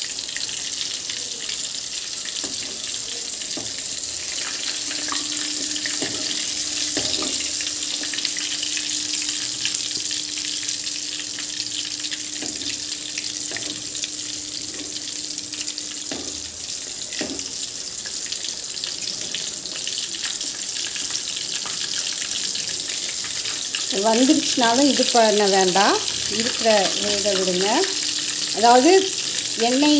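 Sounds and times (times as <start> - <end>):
hot oil sizzling: 0.0 - 29.9.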